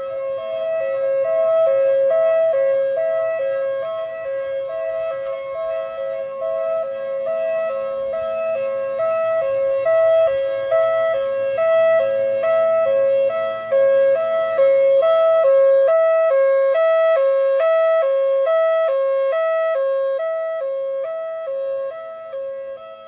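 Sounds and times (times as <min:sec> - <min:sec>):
two-tone warning siren: 0:00.0 - 0:23.0.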